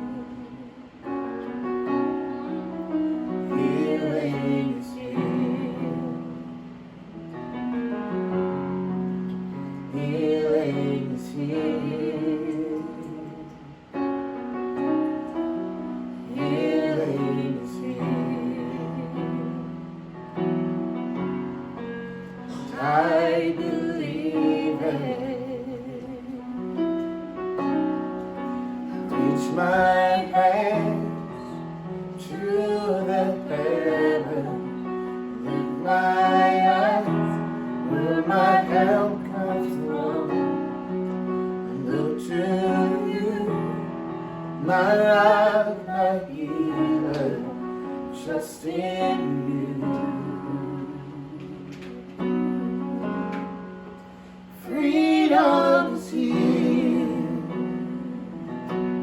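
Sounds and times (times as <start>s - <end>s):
person singing with vibrato: 0.0s - 6.9s, 9.5s - 14.2s, 16.0s - 20.0s, 22.3s - 27.0s, 28.5s - 58.8s
sustained piano chords: 0.0s - 59.0s.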